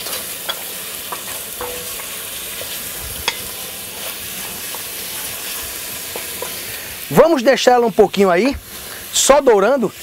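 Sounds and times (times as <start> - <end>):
meat sizzling in butter: 0.0 - 10.0.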